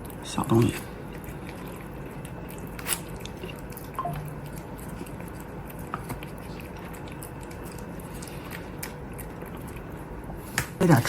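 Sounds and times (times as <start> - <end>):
cat chewing: 0.0 - 10.8.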